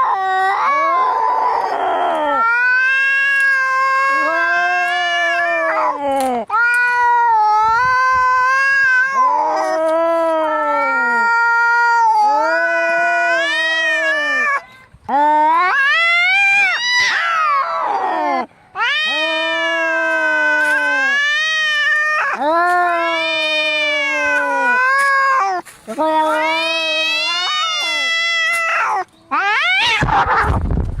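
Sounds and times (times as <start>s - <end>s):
cats yowling: 0.0s - 30.6s.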